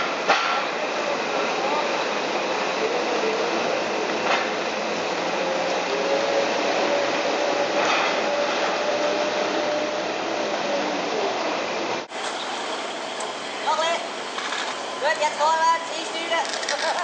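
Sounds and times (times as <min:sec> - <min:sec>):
wheel loader engine drone: 0:00.0 - 0:17.0.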